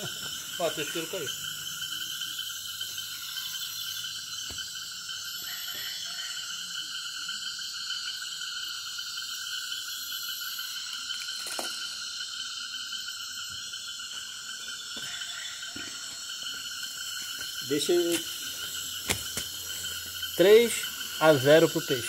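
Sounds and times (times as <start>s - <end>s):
frogs calling: 0.0s - 22.0s
insects calling: 0.0s - 22.0s.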